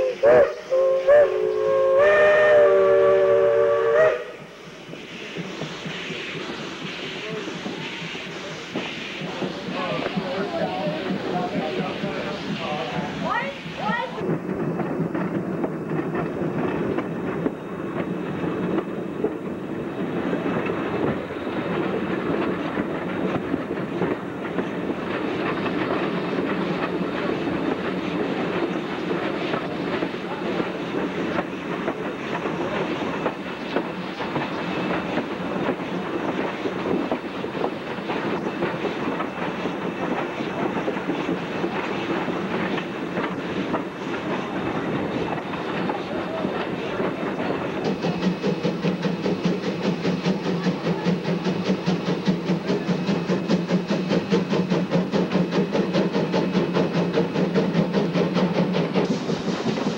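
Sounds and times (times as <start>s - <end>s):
train rumble: 0.0s - 59.9s
train wheels clattering: 1.7s - 59.9s.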